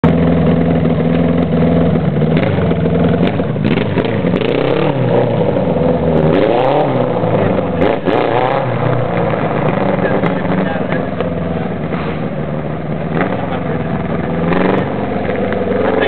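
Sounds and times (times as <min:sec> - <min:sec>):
lawn tractor engine revving: 0:00.0 - 0:16.0.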